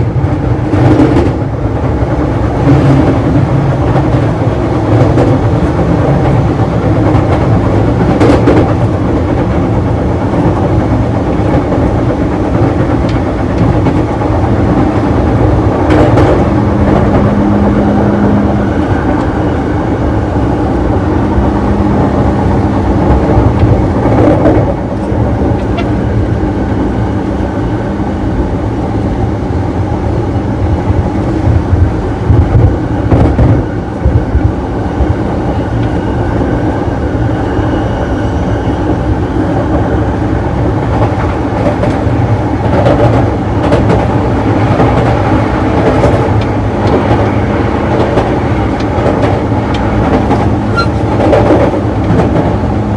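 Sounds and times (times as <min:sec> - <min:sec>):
train wheels rumbling: 0:00.0 - 0:52.9.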